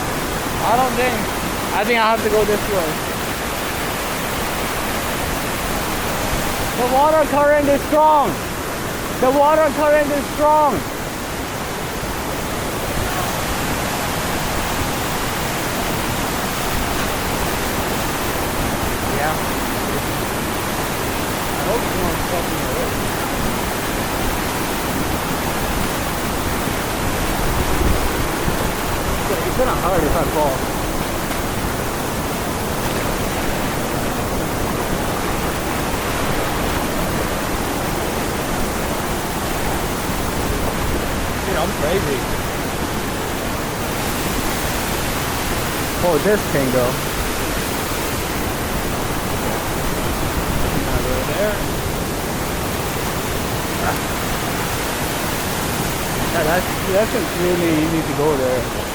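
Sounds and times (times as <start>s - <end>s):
waterfall and stream rushing: 0.0s - 58.9s.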